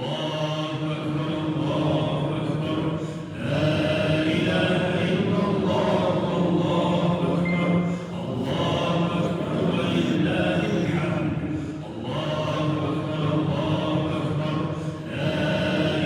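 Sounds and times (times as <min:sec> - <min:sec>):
melodic chanted recitation: 0:00.0 - 0:16.0.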